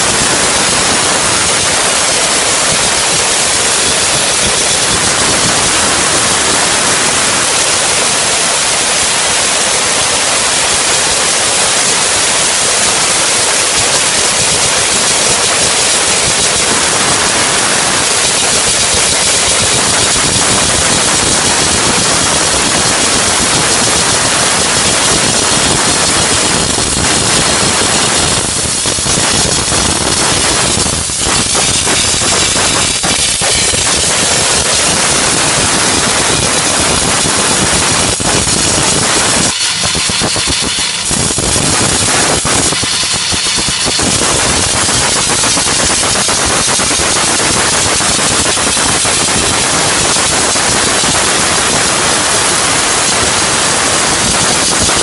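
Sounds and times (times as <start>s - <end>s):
machine running: 0.0s - 55.0s
steam outlet hissing: 0.0s - 55.0s.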